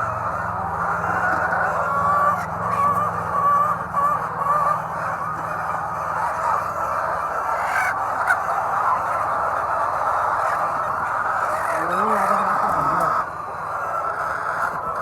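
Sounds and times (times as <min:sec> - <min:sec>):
hens clucking and squawking: 0:00.0 - 0:15.0.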